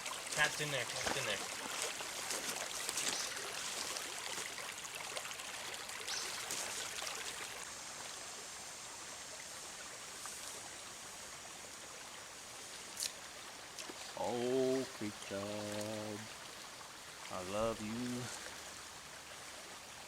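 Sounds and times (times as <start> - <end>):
stream running over rocks: 0.0 - 20.0.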